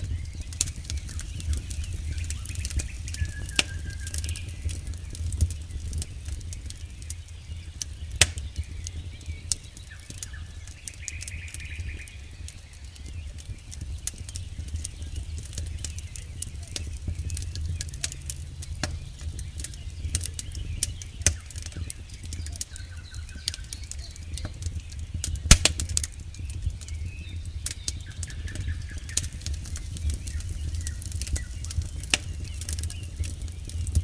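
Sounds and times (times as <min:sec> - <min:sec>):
burning wood popping and snapping: 0:00.0 - 0:34.0
low rumble of fire: 0:00.0 - 0:34.0.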